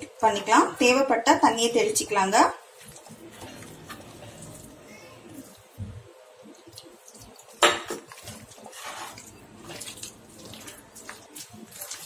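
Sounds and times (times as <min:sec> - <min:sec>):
hand squishing wet marinade: 0:02.0 - 0:12.0.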